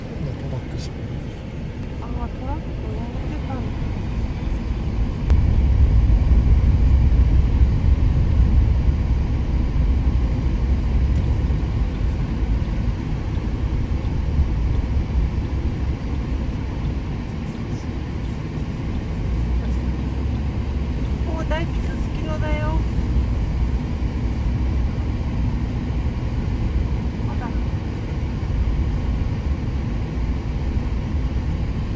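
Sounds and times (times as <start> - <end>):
car engine and tyre rumble: 0.0 - 31.9.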